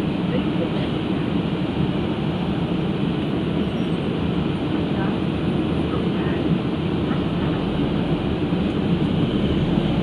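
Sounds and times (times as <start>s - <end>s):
bus running noise inside cabin: 0.0s - 10.0s.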